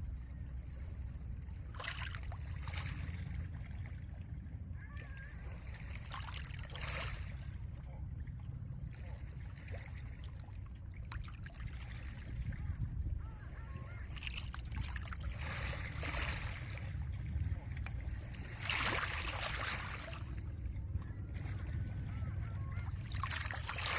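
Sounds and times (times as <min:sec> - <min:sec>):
low rumble of wind: 0:00.0 - 0:23.9.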